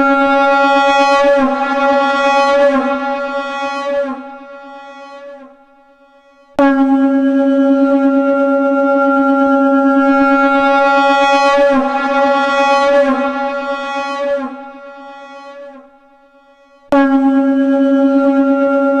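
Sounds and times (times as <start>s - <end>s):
conch shell blown: 0.0s - 18.6s.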